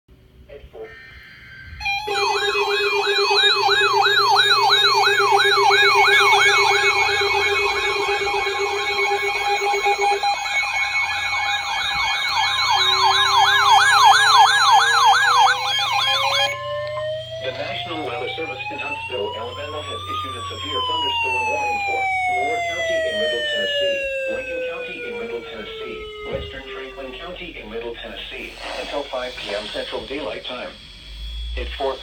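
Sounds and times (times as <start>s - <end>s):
electronic siren yelp: 0.8s - 28.4s
siren wail: 0.8s - 28.4s.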